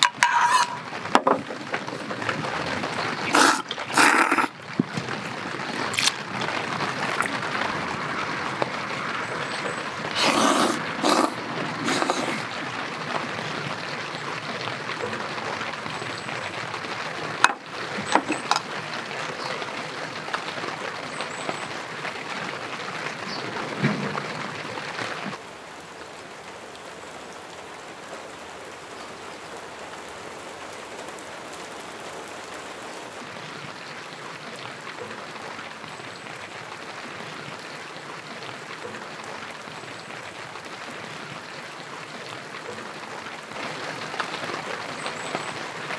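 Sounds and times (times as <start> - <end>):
light rain pattering: 0.0 - 45.9.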